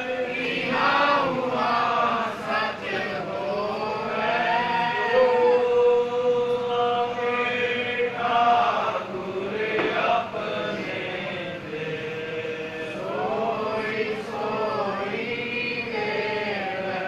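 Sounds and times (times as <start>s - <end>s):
congregation chanting: 0.0s - 17.0s.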